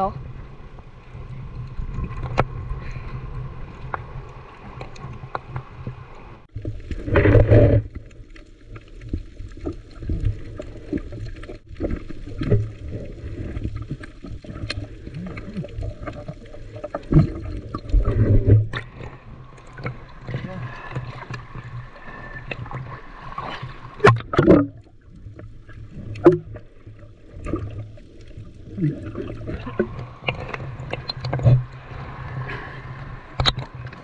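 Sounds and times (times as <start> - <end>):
sea water sloshing: 0.0 - 34.0
water splashes: 0.0 - 34.0.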